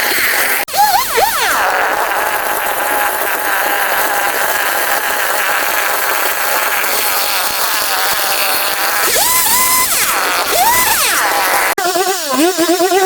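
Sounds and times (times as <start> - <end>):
small high-revving motor: 0.0 - 13.0.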